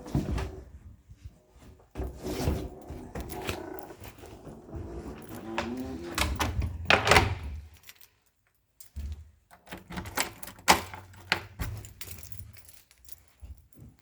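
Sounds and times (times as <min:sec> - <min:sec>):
keys jangling: 0:02.7 - 0:14.0.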